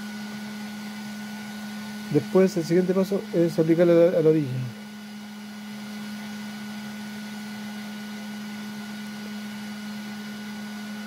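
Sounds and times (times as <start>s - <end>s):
electric dryer humming: 0.0s - 11.0s.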